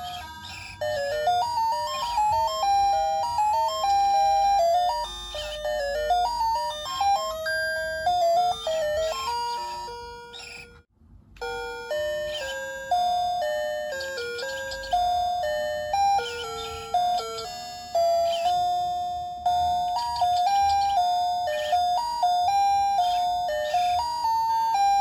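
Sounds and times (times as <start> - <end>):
alarm clock electronic melody: 0.0 - 25.0.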